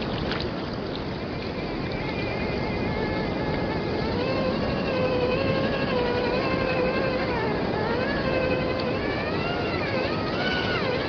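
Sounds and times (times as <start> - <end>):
electric motor whining: 1.2 - 11.0.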